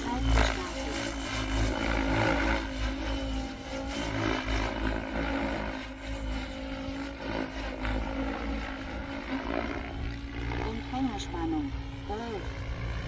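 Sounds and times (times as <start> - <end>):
rc helicopter rotor whirring: 0.0 - 13.0.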